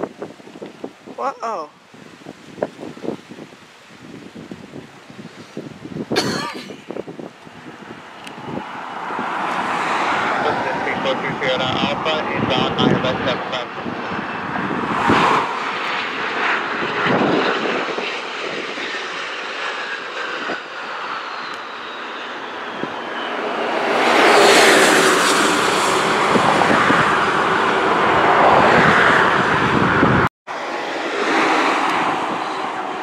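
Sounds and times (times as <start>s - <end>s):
jet engines rushing whine: 1.8s - 33.0s.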